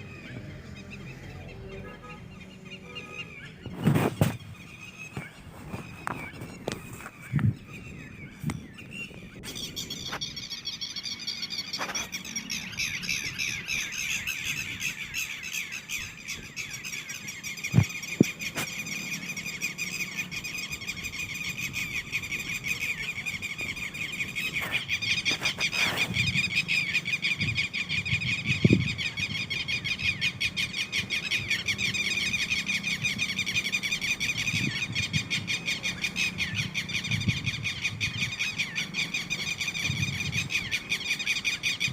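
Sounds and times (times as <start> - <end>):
lapwing calling: 0.0 - 41.9.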